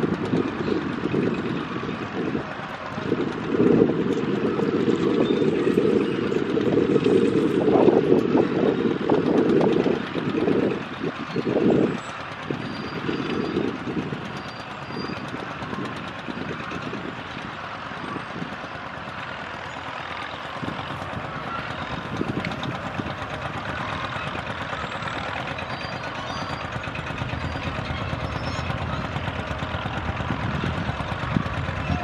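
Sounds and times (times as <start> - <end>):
crawler tractor engine running: 0.0 - 32.0.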